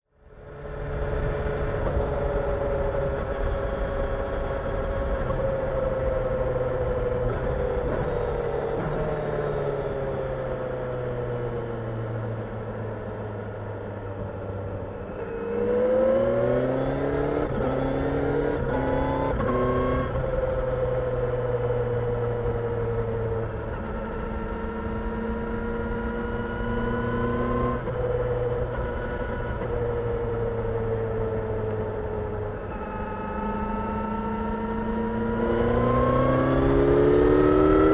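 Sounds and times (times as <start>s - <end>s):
motorcycle engine accelerating: 0.4s - 37.9s.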